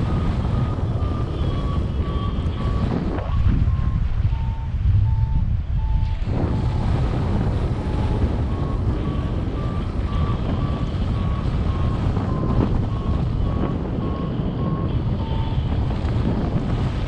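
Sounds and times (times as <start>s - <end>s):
variometer short beeps: 0.5s - 6.8s, 7.8s - 15.7s.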